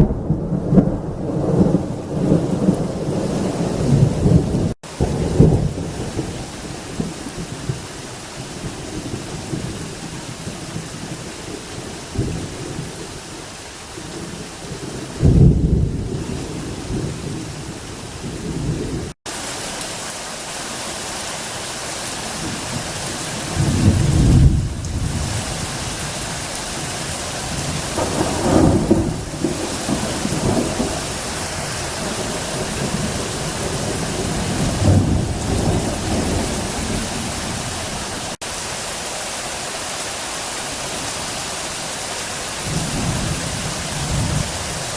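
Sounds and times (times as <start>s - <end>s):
thunder rumbling: 0.0s - 13.0s, 14.2s - 19.2s, 22.4s - 38.4s, 42.6s - 44.9s
heavy rain falling: 0.0s - 44.9s.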